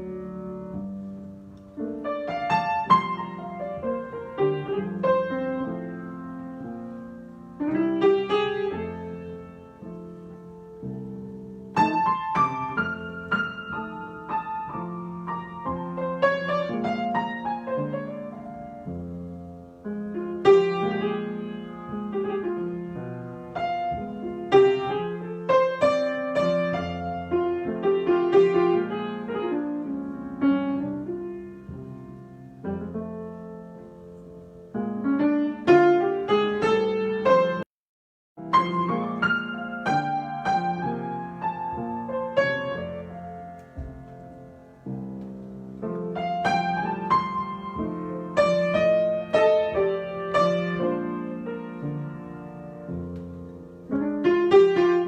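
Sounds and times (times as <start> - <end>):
solo piano: 0.0 - 37.7, 38.4 - 55.0.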